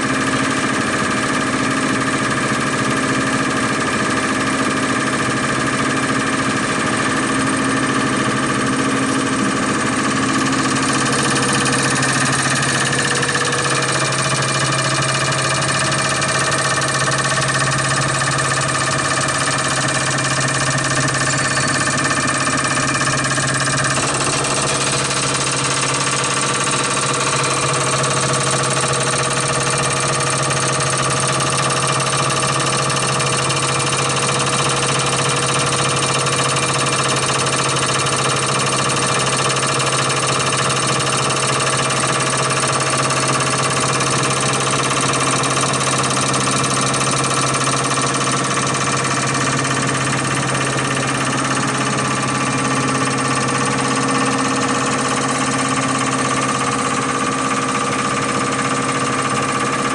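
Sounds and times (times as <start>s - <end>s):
machine drone with whining tones: 0.0s - 59.9s.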